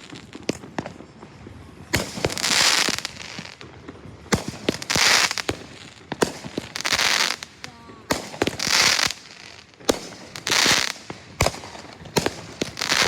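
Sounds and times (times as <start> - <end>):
firework bangs: 0.0 - 13.0
firework hissing: 0.0 - 13.0
small firework pops: 0.0 - 13.0.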